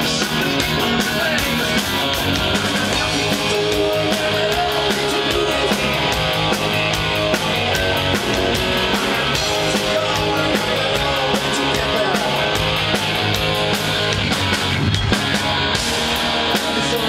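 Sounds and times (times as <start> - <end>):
drum and cymbal hits: 0.0 - 17.0
live rock band playing: 0.0 - 17.0.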